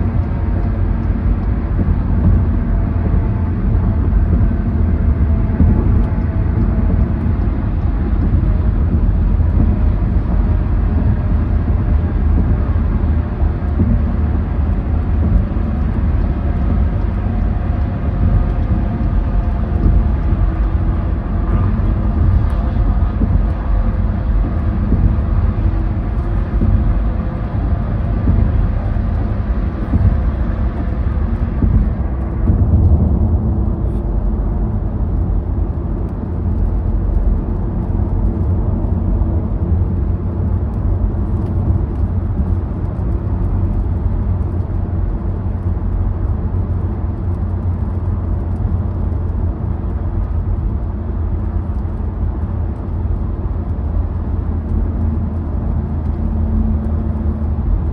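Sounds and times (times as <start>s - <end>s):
road and tyre noise in car: 0.0s - 57.9s.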